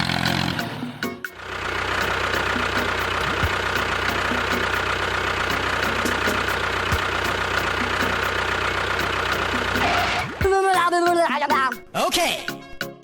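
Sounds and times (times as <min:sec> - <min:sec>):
small tractor motor running: 0:00.0 - 0:10.5.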